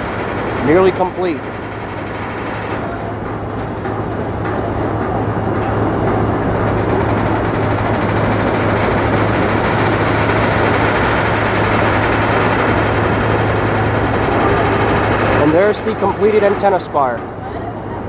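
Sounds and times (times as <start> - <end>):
constant low hum: 0.0 - 18.0
loud mechanical rumble: 0.0 - 18.0.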